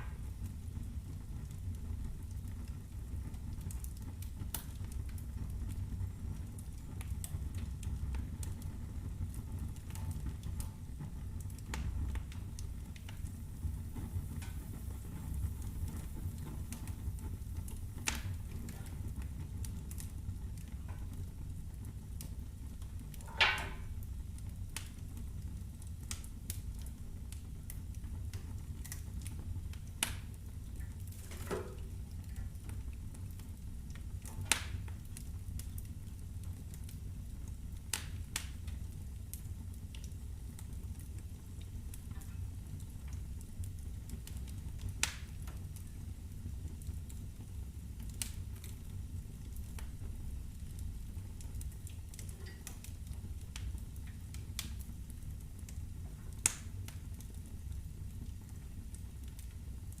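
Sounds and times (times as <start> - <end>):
fire crackling and popping: 0.0 - 60.0.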